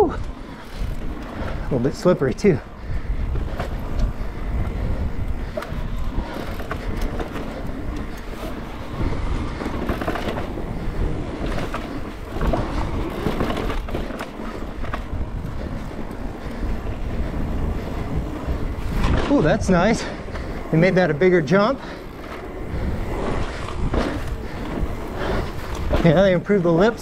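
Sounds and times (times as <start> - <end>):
steady low rumble: 0.0 - 26.7
bike chain and frame rattling: 0.0 - 27.0
bike tyres rolling over dirt: 0.0 - 27.0.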